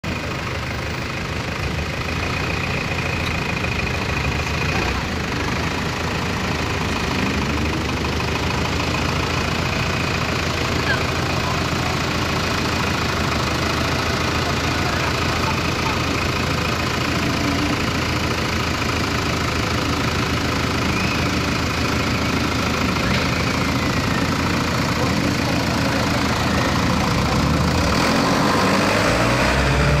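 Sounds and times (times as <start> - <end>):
car engines idling: 0.0 - 30.0
vehicle engine close by: 0.0 - 30.0.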